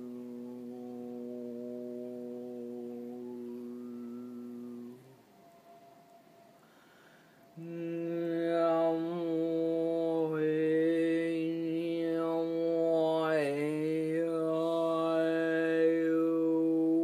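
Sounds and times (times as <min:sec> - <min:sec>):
woman chanting long note: 0:00.0 - 0:05.4, 0:07.6 - 0:17.0.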